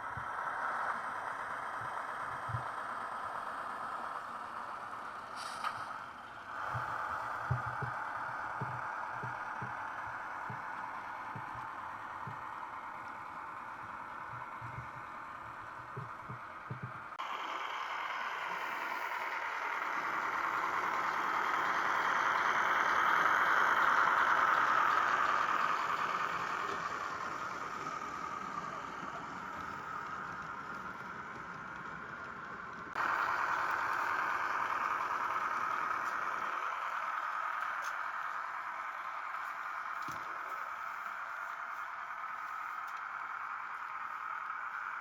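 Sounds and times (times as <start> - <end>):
model train whirring rattle: 0.0 - 45.0.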